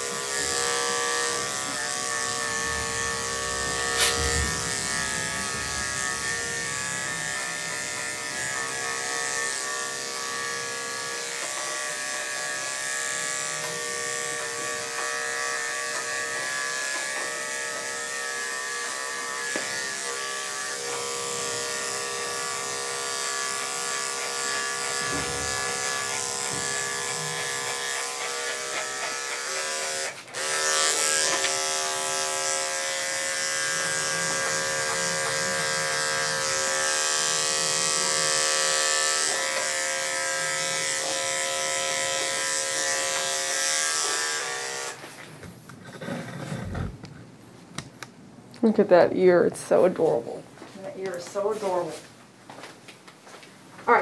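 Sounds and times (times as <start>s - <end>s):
electric dog clipper running: 0.0s - 45.0s.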